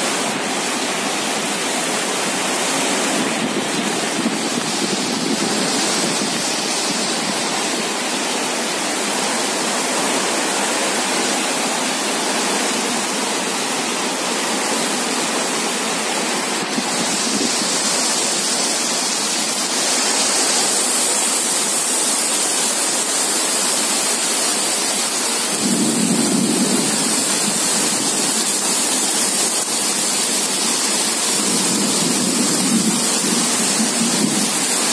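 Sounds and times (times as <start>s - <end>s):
heavy rain on tiled roofs: 0.0s - 34.9s.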